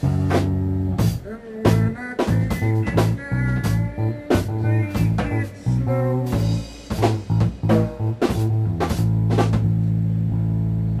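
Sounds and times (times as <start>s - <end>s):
drum kit groove: 0.0s - 11.0s
electric bass line: 0.0s - 11.0s.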